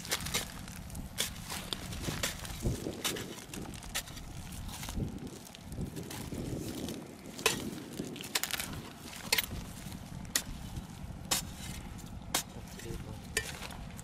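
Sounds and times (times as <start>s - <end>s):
spade crunching into dry mud: 0.0s - 14.0s.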